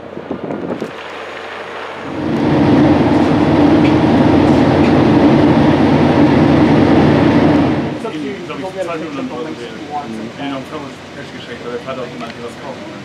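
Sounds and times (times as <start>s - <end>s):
machine rumble with low hum: 0.0s - 13.0s.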